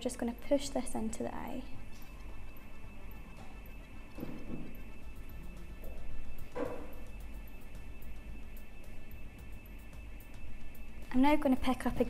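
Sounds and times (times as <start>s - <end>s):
background music with ticking beat: 0.0s - 12.0s.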